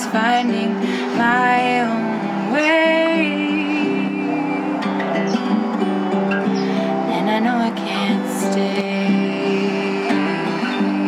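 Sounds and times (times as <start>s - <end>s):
acoustic guitar playing: 0.0s - 11.0s
person singing: 0.0s - 11.0s.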